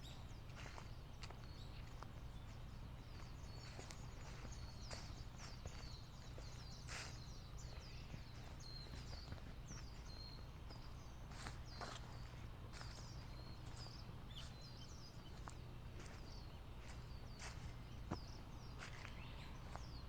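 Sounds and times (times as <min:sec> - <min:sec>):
footsteps on a trail: 0:00.0 - 0:20.0
small birds chirping: 0:00.0 - 0:20.0.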